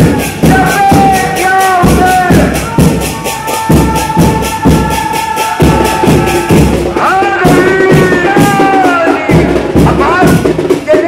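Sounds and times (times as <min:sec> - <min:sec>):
drums beating steady rhythm: 0:00.0 - 0:11.0.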